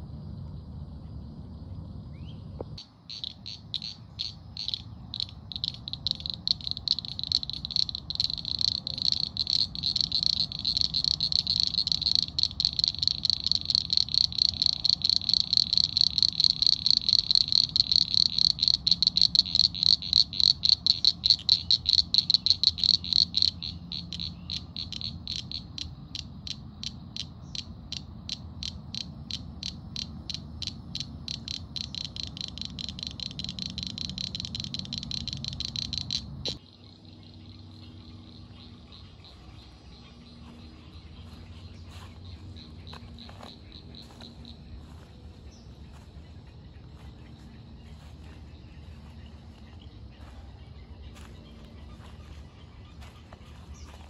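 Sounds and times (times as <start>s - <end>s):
frog calling with high notes: 2.8s - 54.0s.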